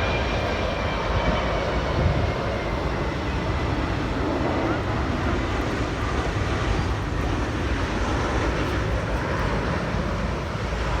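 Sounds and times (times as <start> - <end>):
jet airliner flying overhead: 0.0 - 11.0.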